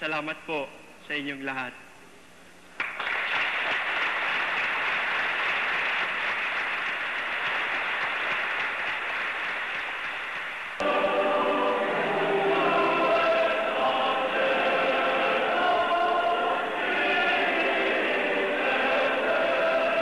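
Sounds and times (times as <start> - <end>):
congregation applauding: 2.8 - 20.0.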